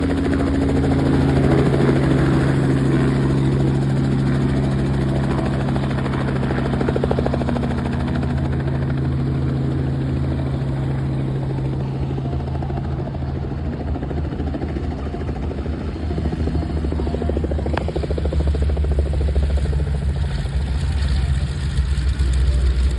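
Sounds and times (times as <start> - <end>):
helicopter engine and rotor hum: 0.0 - 22.9.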